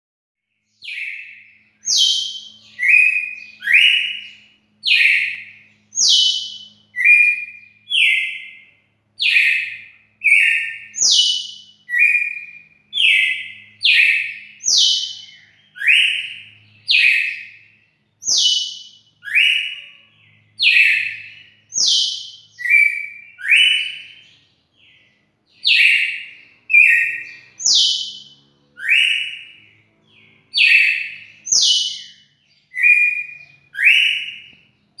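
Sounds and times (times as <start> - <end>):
bird singing whistled notes: 0.5 - 35.0.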